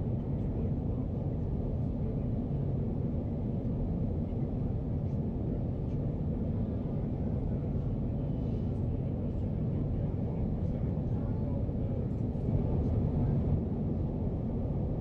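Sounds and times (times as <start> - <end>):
airliner cabin rumble: 0.0 - 15.0
jet engine and airflow noise: 0.0 - 15.0.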